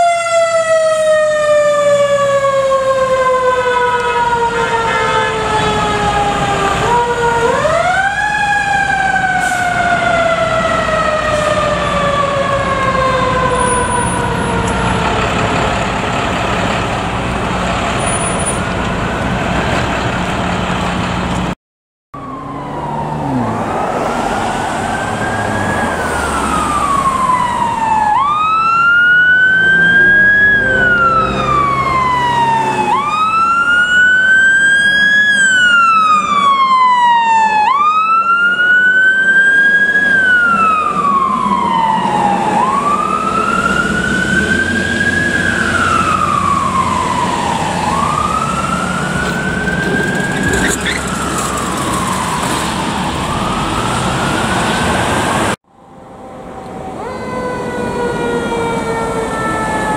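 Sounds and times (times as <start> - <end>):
fire engine siren wailing: 0.0 - 19.5, 22.2 - 59.9
low rumble of traffic and engine: 0.0 - 21.6, 22.2 - 59.9.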